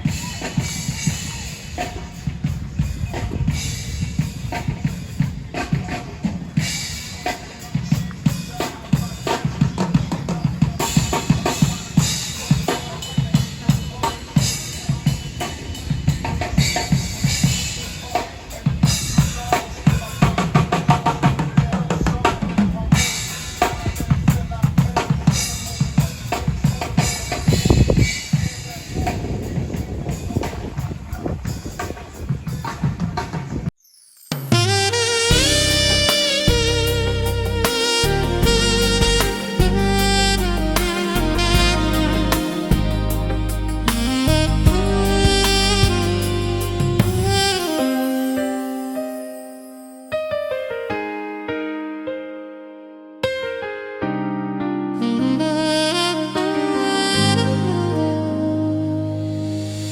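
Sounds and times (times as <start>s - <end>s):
drum kit beat: 0.0s - 33.6s, 34.3s - 49.2s.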